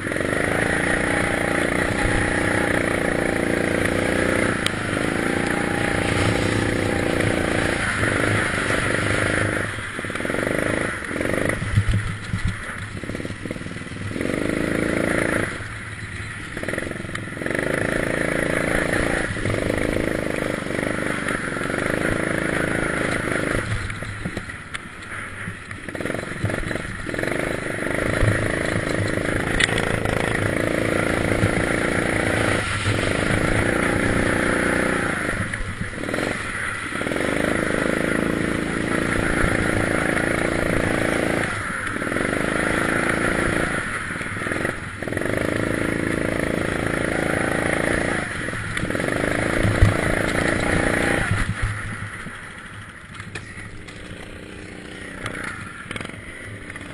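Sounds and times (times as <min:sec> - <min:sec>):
go-kart engine accelerating: 0:00.0 - 0:56.9.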